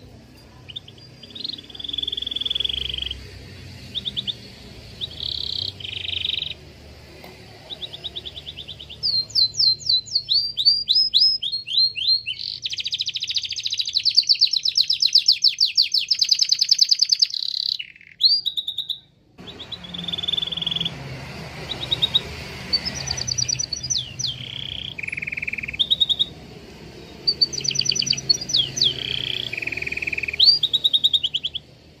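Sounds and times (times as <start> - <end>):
canary singing: 0.0 - 32.0.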